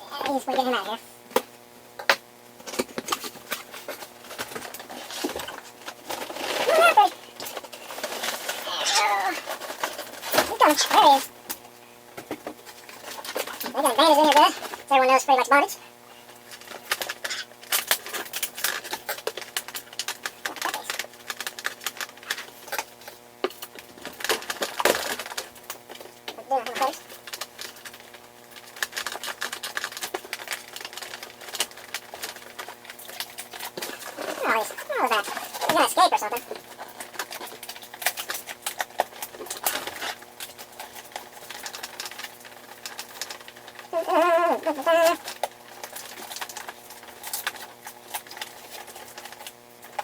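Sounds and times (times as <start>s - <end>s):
plastic packaging crinkling: 2.6s - 14.9s, 16.3s - 50.0s.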